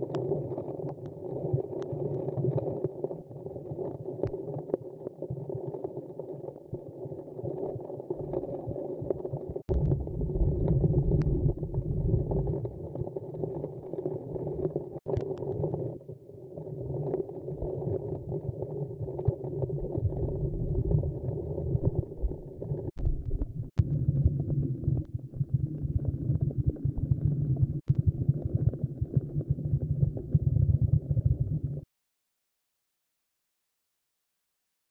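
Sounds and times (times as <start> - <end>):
muffled underwater water rumble: 0.0 - 31.9.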